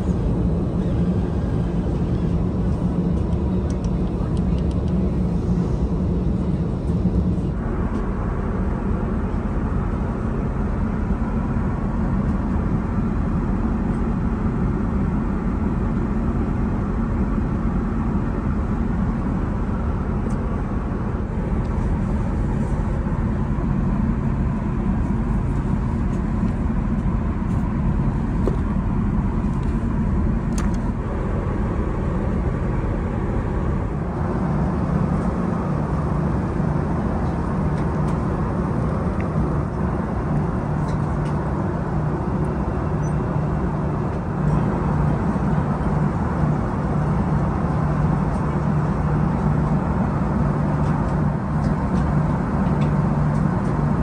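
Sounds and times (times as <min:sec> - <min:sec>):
aircraft cabin rumble and air hiss: 0:00.0 - 0:54.0.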